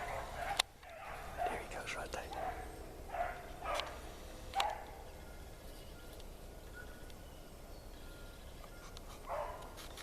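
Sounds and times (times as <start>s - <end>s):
distant hounds baying: 0.0s - 9.9s.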